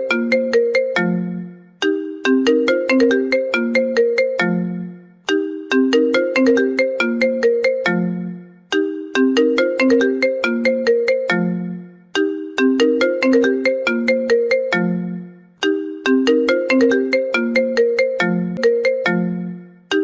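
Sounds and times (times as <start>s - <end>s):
phone ringtone plucked melody: 0.0s - 20.0s.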